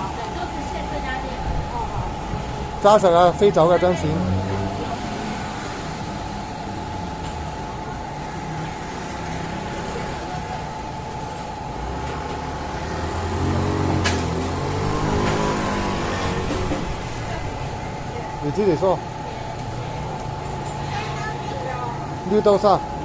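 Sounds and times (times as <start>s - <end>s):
street traffic hum: 0.0s - 23.0s
vehicle engine rumble: 0.0s - 23.0s.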